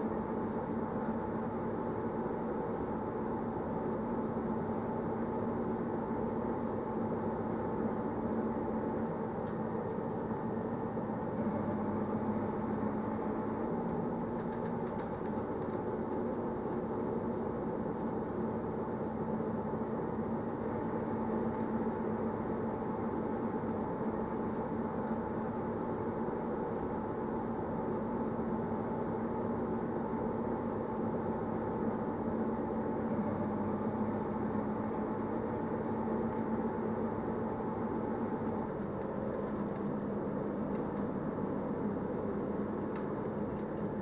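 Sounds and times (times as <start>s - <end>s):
electric train running hum: 0.0s - 44.0s.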